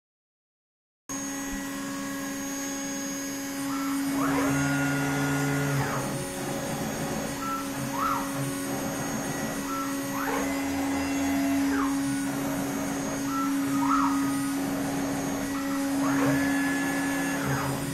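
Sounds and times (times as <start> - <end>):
steady hum: 1.1 - 17.9
stepper motors whining: 1.1 - 17.9.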